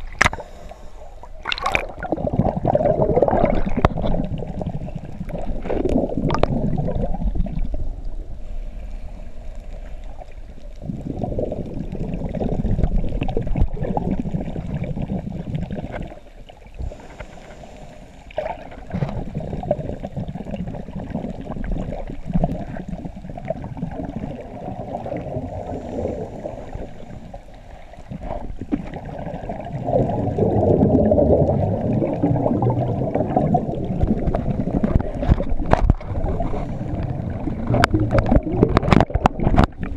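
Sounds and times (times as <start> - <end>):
muffled underwater regulator bubbles: 0.0 - 8.3, 9.7 - 39.9.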